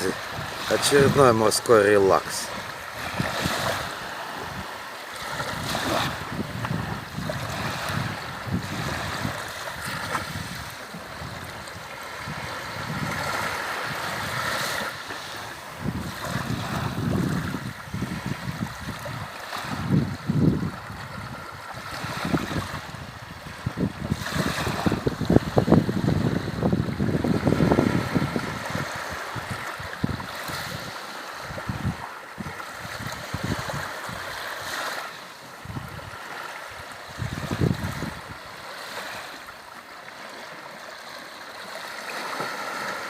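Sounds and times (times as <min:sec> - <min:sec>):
wind buffeting microphone: 0:00.0 - 0:34.9, 0:35.5 - 0:39.3
sea waves washing on shore: 0:00.0 - 0:43.0.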